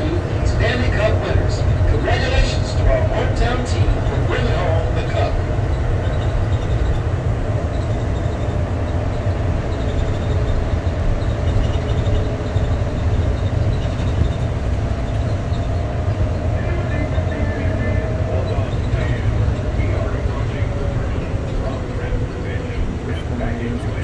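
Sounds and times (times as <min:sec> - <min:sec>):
faint whine: 0:00.0 - 0:24.0
train low rumble: 0:00.0 - 0:24.0.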